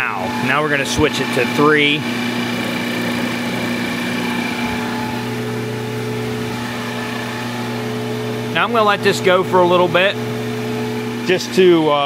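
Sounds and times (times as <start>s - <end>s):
motor and compressor hum: 0.0s - 12.0s.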